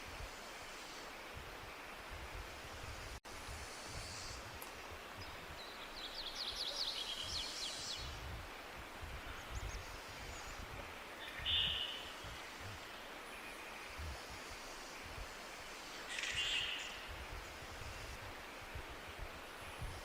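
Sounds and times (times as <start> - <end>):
steady forest hiss: 0.0 - 20.0.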